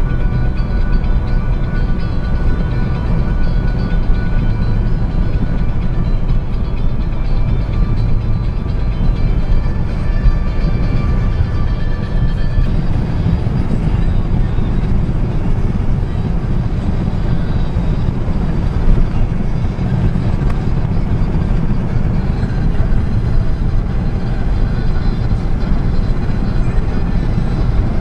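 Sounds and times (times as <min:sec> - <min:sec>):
vehicle engine and tyre rumble: 0:00.0 - 0:28.0.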